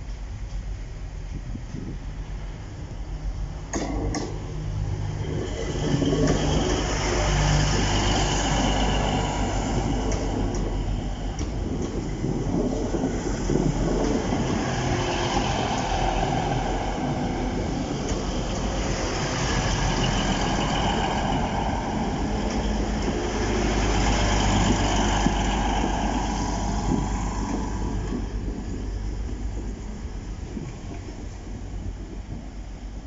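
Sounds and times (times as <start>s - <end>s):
diesel train engine drone: 0.0s - 33.0s
wheels rumbling on rails: 0.0s - 33.0s.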